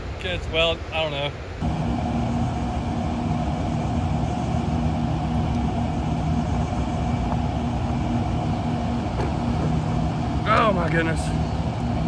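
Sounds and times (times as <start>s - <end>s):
low hum: 1.4s - 12.0s.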